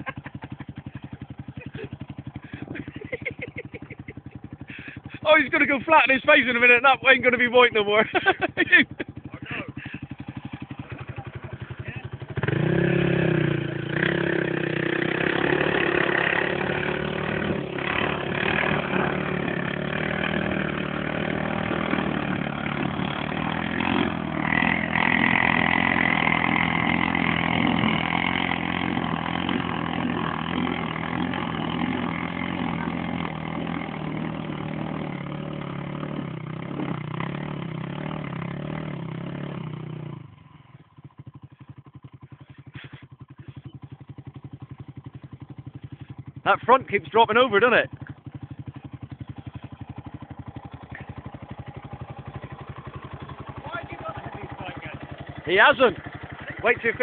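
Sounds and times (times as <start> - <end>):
quad bike engine revving: 0.0 - 57.0.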